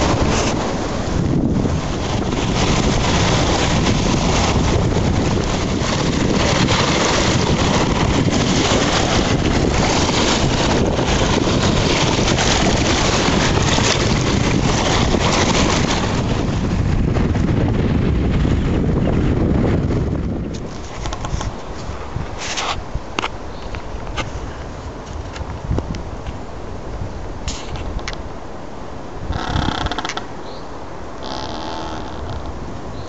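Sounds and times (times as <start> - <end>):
strong wind on microphone: 0.0 - 33.0.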